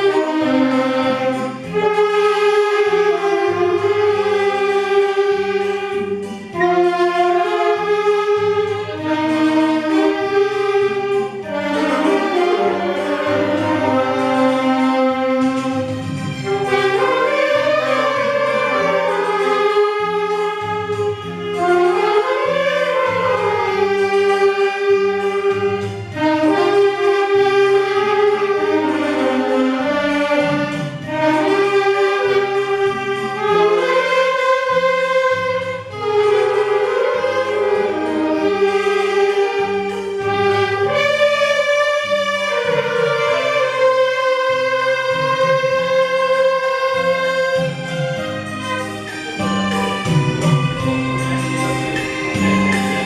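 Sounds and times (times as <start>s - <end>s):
saxophone ensemble playing: 0.0s - 53.0s.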